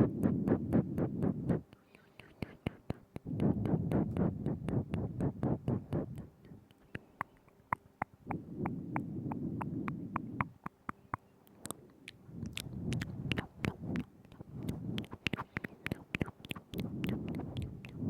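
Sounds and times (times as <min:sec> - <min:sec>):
tongue and lip clicks: 0:00.0 - 0:18.0.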